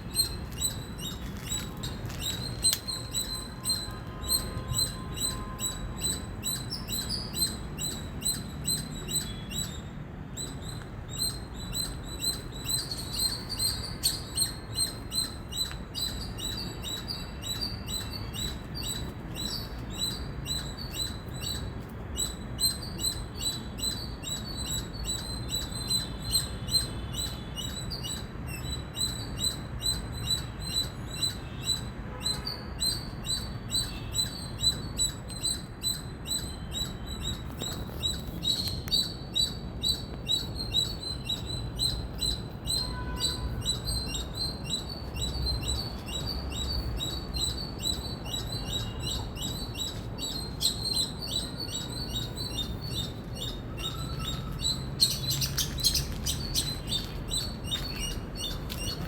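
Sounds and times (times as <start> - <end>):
squirrel chirping: 0.0 - 59.0.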